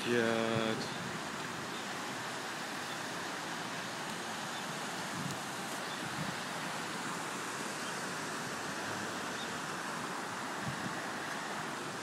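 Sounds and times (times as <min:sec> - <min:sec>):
heavy rain and rushing floodwater: 0:00.0 - 0:12.0.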